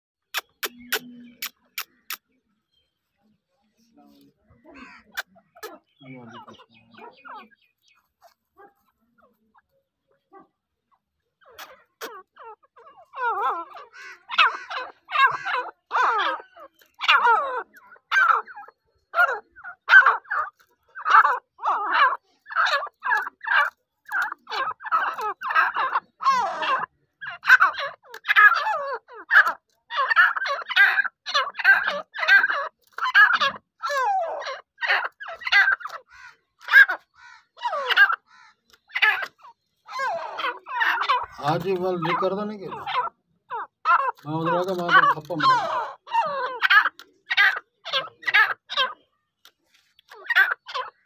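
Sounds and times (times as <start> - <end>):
birds calling repeatedly: 0.2 - 51.0.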